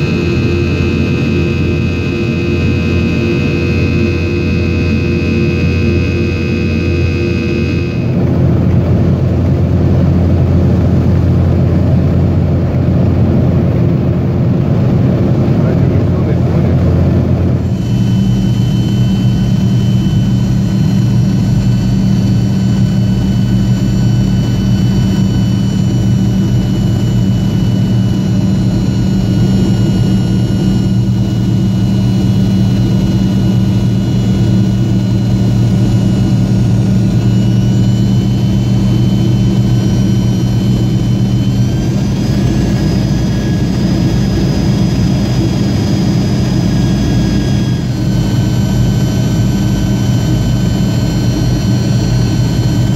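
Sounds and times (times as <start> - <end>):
jet engine drone and whine: 0.0 - 52.9.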